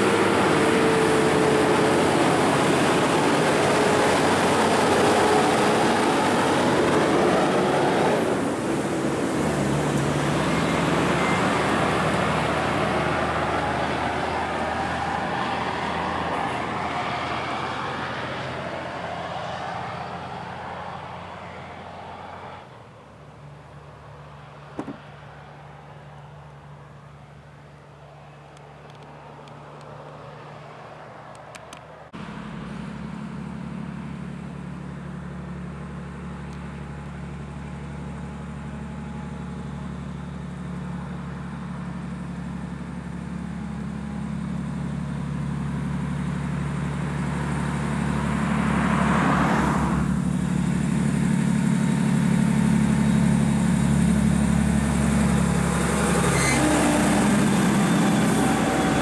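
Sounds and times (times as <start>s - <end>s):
heavy diesel truck passing: 0.0s - 59.0s.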